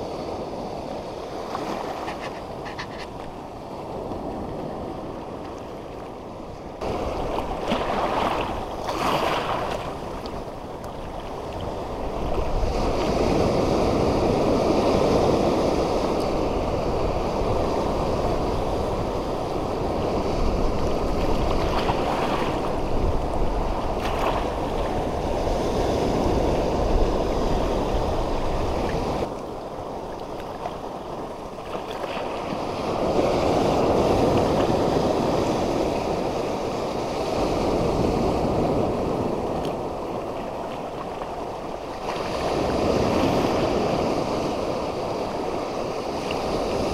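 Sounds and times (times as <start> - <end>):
sea surf washing over rocks: 0.0 - 46.9.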